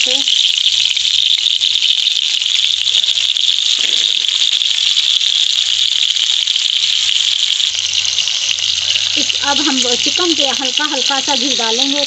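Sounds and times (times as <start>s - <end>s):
meat sizzling in hot fat: 0.0s - 12.0s.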